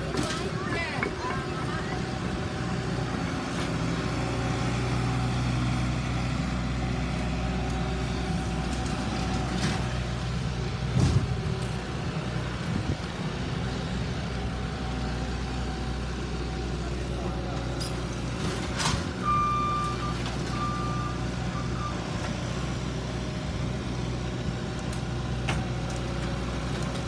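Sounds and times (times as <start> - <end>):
heavy engine humming: 0.0 - 27.0.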